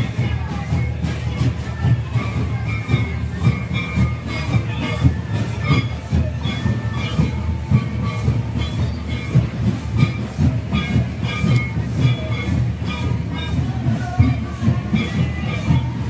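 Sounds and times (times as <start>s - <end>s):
high repeating melody: 0.0s - 16.0s
low drum beats: 0.0s - 16.0s.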